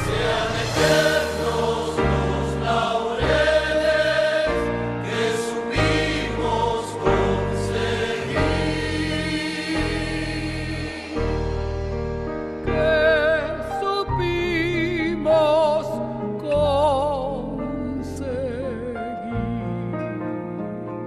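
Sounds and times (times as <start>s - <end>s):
music with singing voices: 0.0s - 21.0s.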